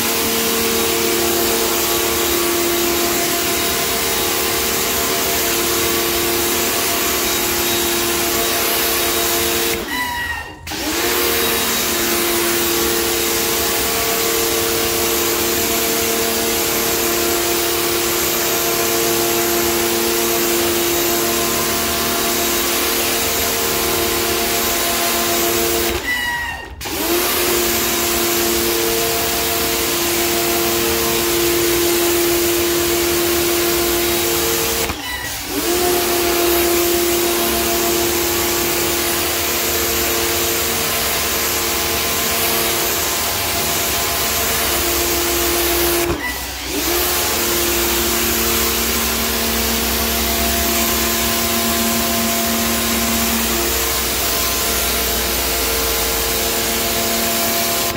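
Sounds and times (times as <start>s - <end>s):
water jet hissing on tiles: 0.0s - 10.0s, 10.6s - 57.9s
pump motor humming: 0.0s - 57.9s.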